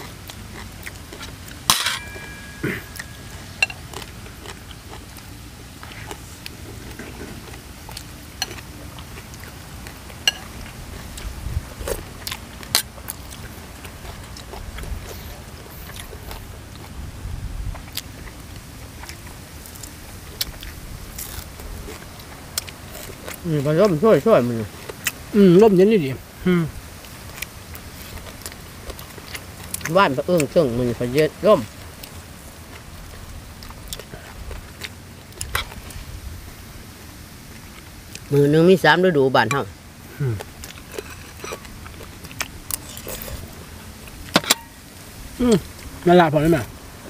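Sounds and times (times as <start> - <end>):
people chewing food: 0.0 - 47.0.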